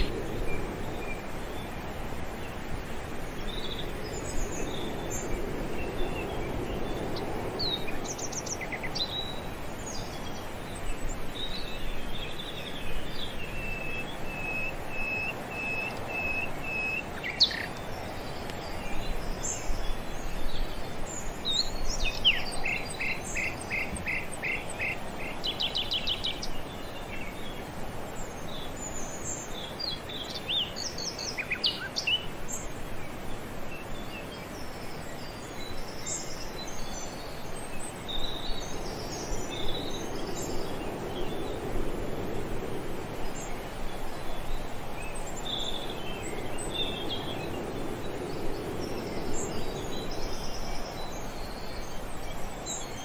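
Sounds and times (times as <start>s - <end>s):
wild birds chirping: 0.0s - 53.0s.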